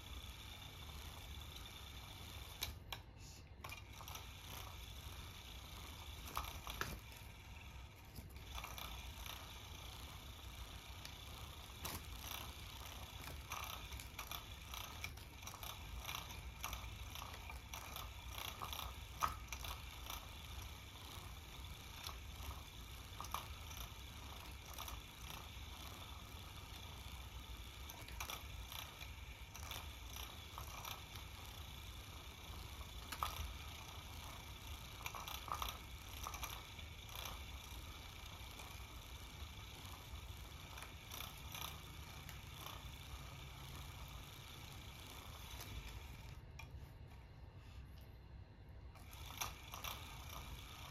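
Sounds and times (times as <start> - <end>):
small toy motor whirring: 0.0 - 46.8, 48.9 - 50.9.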